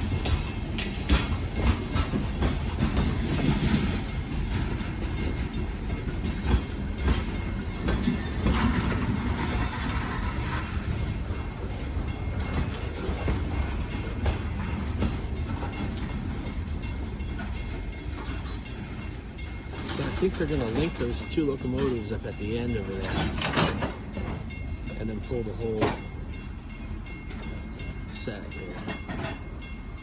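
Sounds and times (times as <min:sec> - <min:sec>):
freight train rumbling past: 0:00.0 - 0:30.0
wheels clanking over rail joints: 0:00.0 - 0:30.0.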